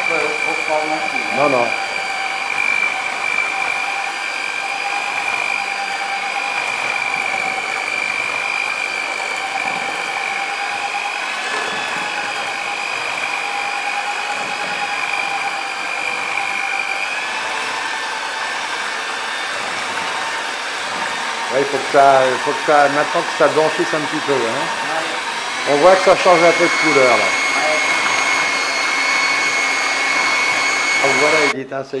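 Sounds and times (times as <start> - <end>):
electric hand mixer whining: 0.0 - 31.6.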